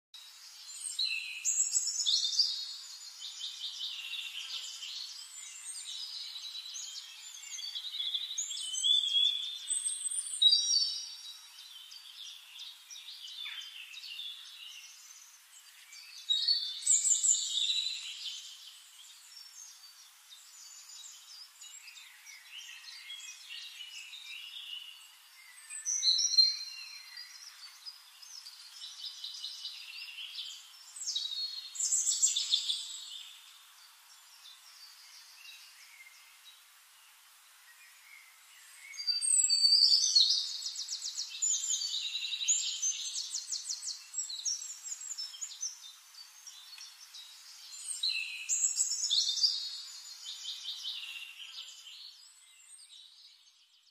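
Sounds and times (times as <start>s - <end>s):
birds singing and chirping: 0.2s - 53.9s.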